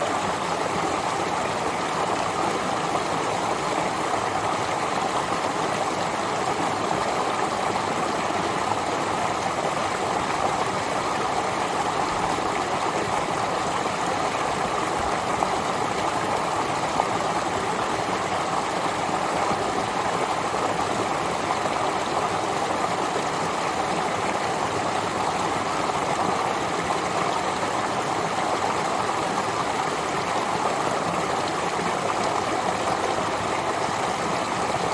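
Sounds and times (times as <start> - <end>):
stream flowing over rocks: 0.0 - 34.9.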